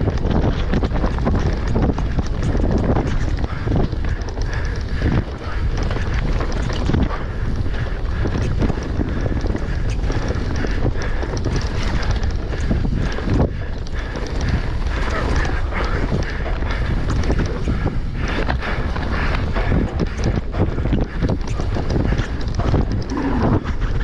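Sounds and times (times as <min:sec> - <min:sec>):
bike rattling over rough trail: 0:00.0 - 0:24.0
wind rushing over microphone: 0:00.0 - 0:24.0.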